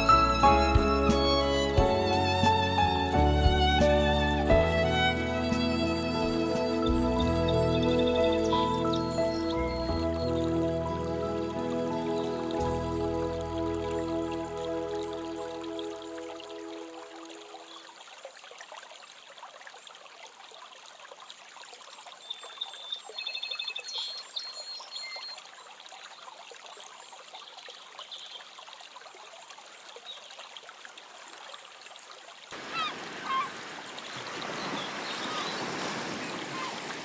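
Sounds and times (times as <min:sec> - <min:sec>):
rushing water: 0:00.0 - 0:37.0
water trickling: 0:06.0 - 0:37.0.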